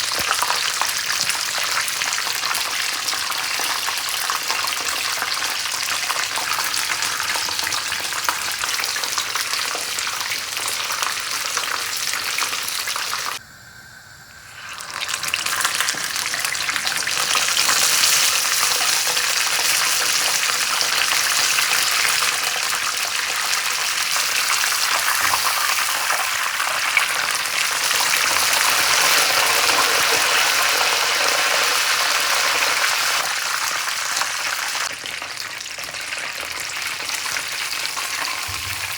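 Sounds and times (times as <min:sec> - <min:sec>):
chicken deep-frying in oil: 0:00.0 - 0:13.4, 0:14.2 - 0:38.9.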